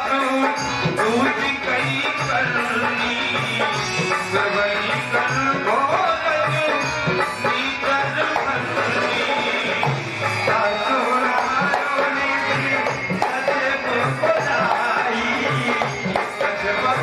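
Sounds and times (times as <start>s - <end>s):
tabla rhythm: 0.0s - 17.0s.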